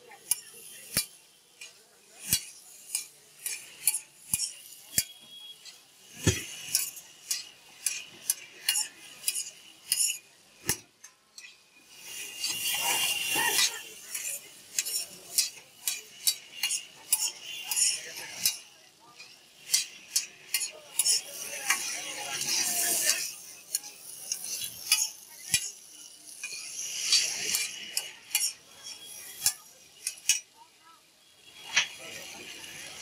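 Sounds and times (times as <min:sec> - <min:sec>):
metal spatulas scraping a pan: 0:00.2 - 0:18.6, 0:19.2 - 0:30.5.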